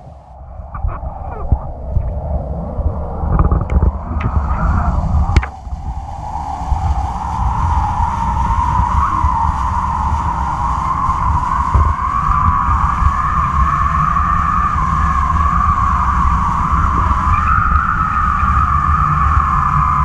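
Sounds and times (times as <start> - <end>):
low wind buffeting: 0.0 - 20.0
whistling hum of kite lines: 0.0 - 20.0.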